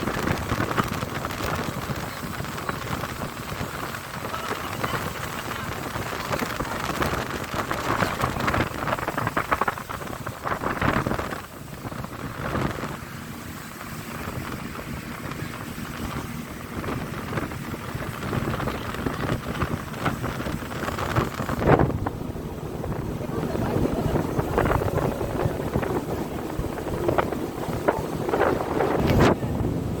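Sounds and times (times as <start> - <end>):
water rushing past hull: 0.0 - 30.0
wind buffeting microphone: 0.0 - 30.0.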